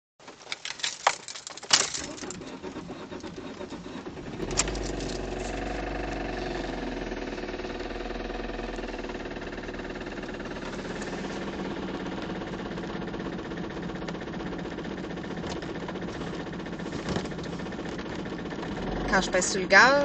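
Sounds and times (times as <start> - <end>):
car engine starting and idling: 0.2 - 20.0
engine clacking noise: 1.9 - 20.0.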